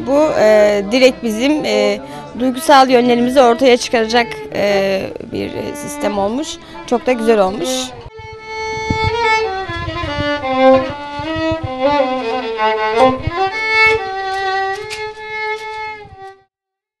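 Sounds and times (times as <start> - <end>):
solo violin melody: 0.0 - 16.5.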